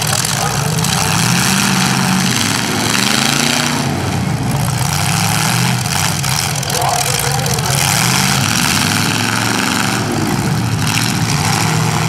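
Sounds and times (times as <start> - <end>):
car engines running loudly: 0.0 - 12.0
engine revving up: 0.0 - 12.0.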